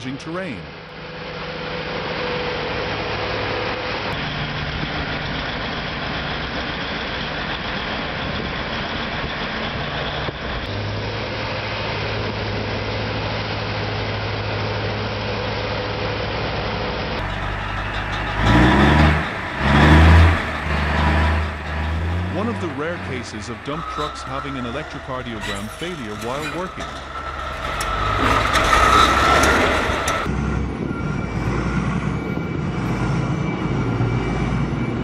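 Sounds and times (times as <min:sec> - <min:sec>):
diesel truck engine running: 0:00.1 - 0:35.0.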